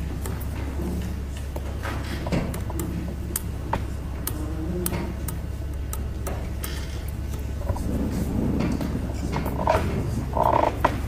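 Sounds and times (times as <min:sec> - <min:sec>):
faint clicks and ticks: 0:00.0 - 0:11.0
low electrical hum: 0:00.0 - 0:11.0.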